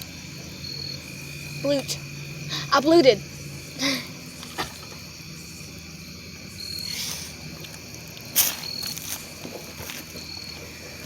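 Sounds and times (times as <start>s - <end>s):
crickets humming: 0.0s - 11.0s.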